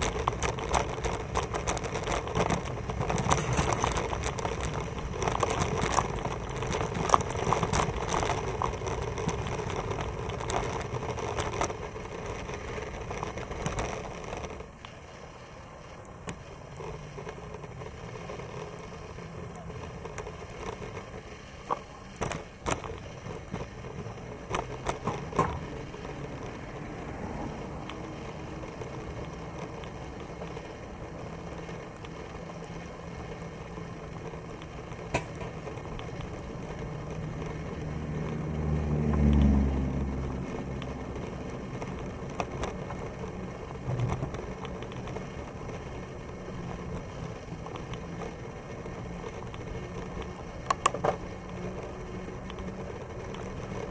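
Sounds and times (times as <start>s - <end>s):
bicycle clicks and rattles: 0.0s - 53.9s
bicycle tyres hissing: 0.0s - 53.9s
passing road vehicle rumble: 0.0s - 53.9s.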